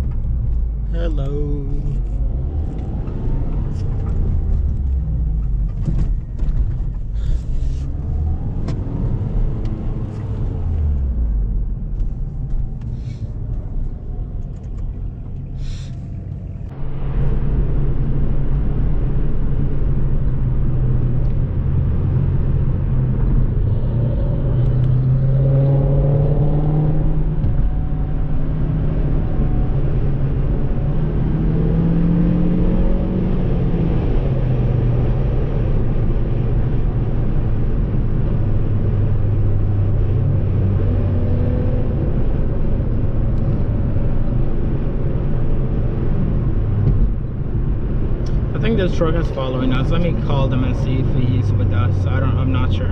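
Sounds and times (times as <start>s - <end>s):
car engine accelerating: 0.0s - 52.9s
road noise inside car: 0.0s - 52.9s.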